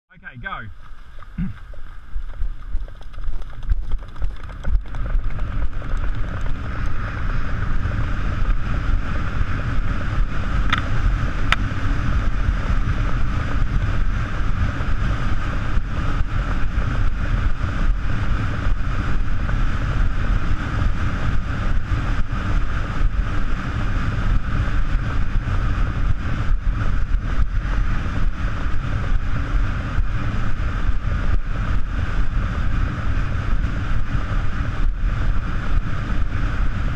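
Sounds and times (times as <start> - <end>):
wind buffeting microphone: 0.1 - 36.9
vehicle driving fast: 1.2 - 36.9.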